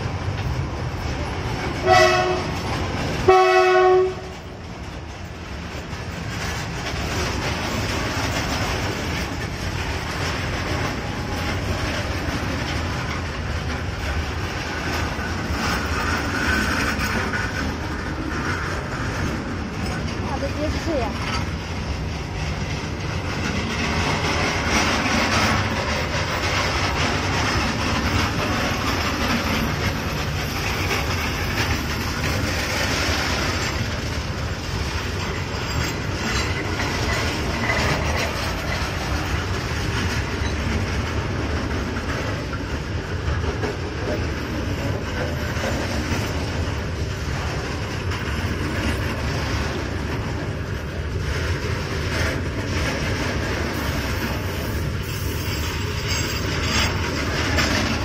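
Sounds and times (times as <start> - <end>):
train wheels on rails: 0.0 - 58.0
wheels clacking over rail joints: 0.0 - 58.0.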